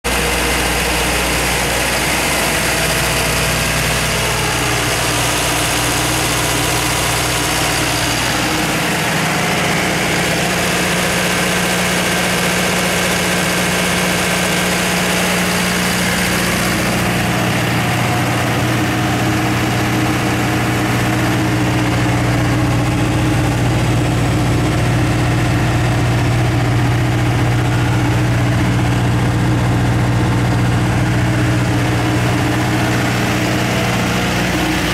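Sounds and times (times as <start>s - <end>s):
diesel generator engine running: 0.0s - 34.9s.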